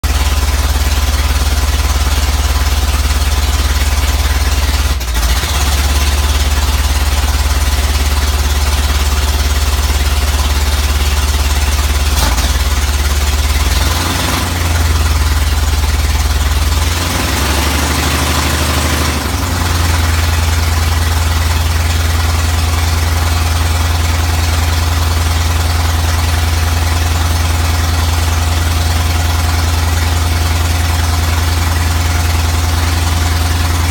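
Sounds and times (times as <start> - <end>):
engine idling roughly: 0.0 - 33.9.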